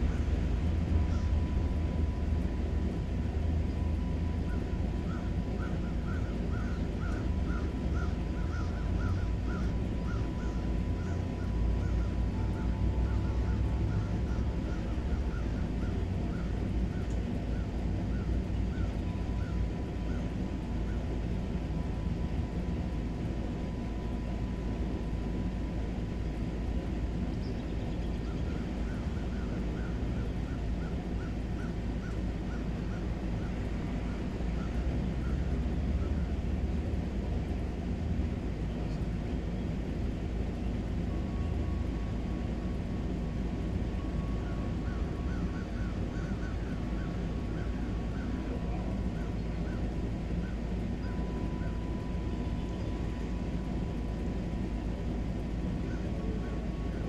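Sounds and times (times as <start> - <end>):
low rumbling noise: 0.0 - 57.0.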